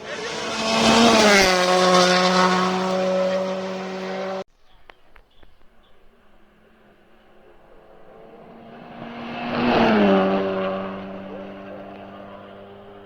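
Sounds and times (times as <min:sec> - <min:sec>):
rally car passing at speed: 0:00.0 - 0:04.4, 0:06.1 - 0:13.0.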